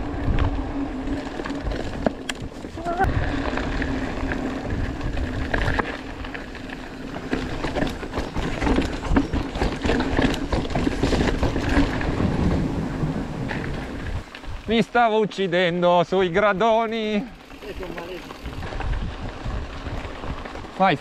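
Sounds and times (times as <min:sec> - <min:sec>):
wind rumbling on microphone: 0:00.0 - 0:14.9, 0:16.2 - 0:21.0
bike rattling over bumps: 0:00.0 - 0:21.0.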